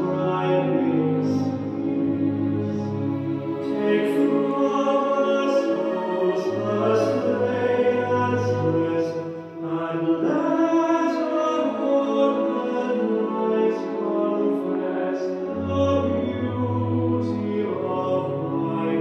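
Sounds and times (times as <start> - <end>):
slow choral singing: 0.0 - 19.0.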